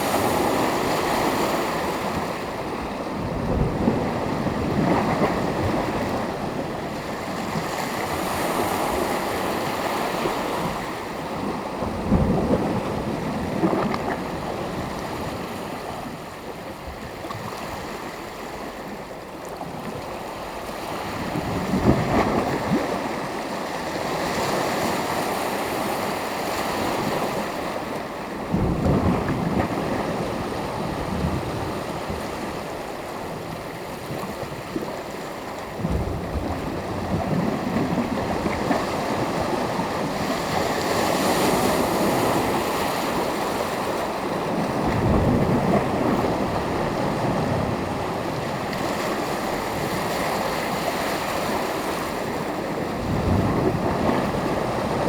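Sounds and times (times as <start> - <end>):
wind on microphone: 0.0 - 17.9, 20.7 - 55.0
waves breaking on shore: 0.0 - 55.0.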